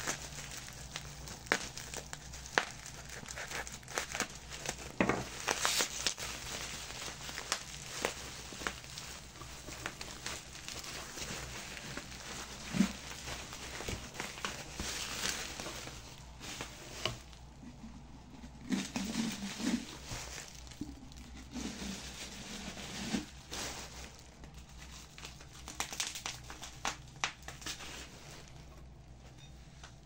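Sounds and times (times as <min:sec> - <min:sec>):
crinkling handling noise: 0:00.0 - 0:30.0.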